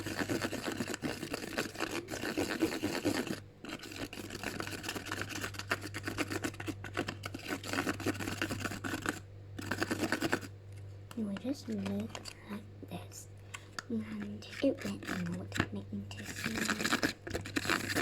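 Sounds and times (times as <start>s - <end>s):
utensil scraping in a bowl: 0.0s - 10.5s, 11.1s - 12.4s, 13.8s - 18.0s
low electrical hum: 0.0s - 18.0s.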